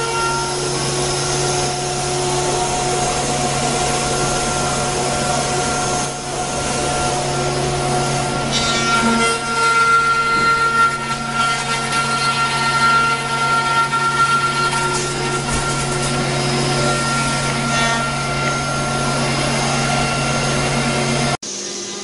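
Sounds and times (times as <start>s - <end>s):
router spindle whining: 0.0s - 21.4s.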